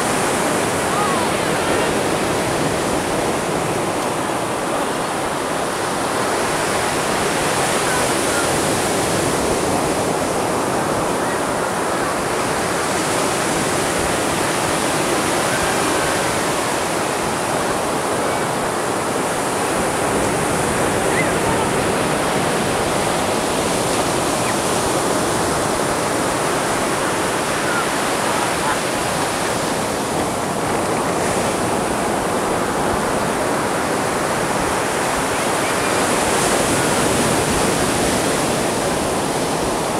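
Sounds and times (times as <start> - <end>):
surf waves breaking on beach: 0.0 - 39.9.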